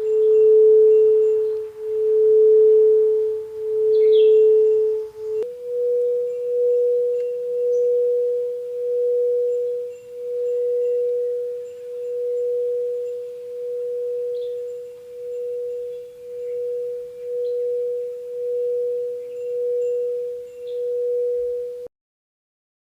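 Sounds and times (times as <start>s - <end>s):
singing bowl tone: 0.0s - 21.9s.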